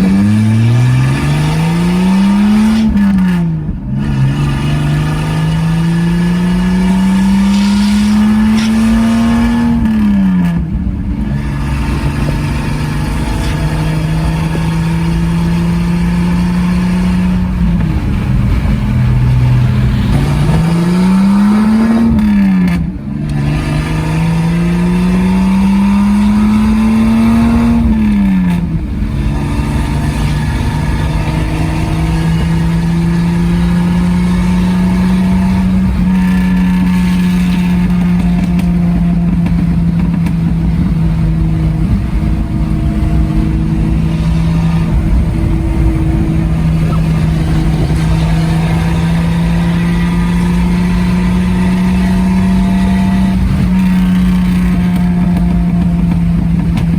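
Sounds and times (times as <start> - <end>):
loud car engine revving: 0.0 - 56.9.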